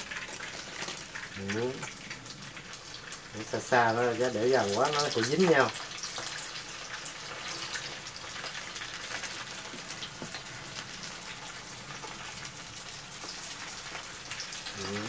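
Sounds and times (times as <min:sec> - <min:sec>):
food deep-frying in hot oil: 0:00.0 - 0:15.0.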